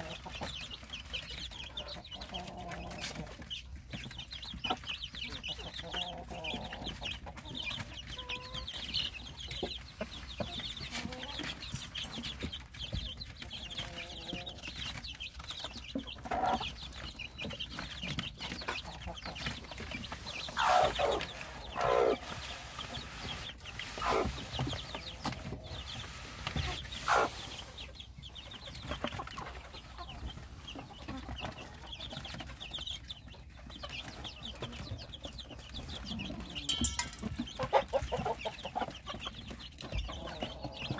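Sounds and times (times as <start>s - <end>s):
chicken clucking: 0.0s - 40.9s
chicks peeping: 0.0s - 40.9s.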